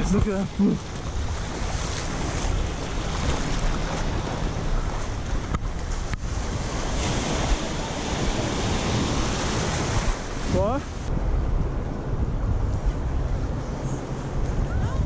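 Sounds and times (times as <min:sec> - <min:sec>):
surf washing at shoreline: 0:00.0 - 0:15.0
wind buffeting microphone: 0:00.0 - 0:15.0.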